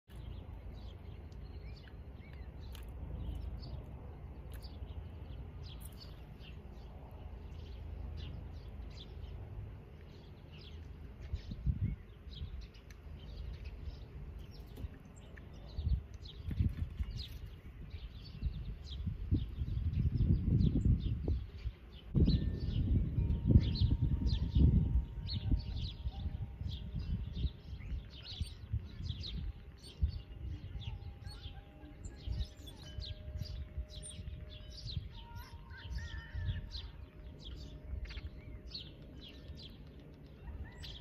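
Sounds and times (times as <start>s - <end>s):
songbirds chirping: 0.1s - 41.0s.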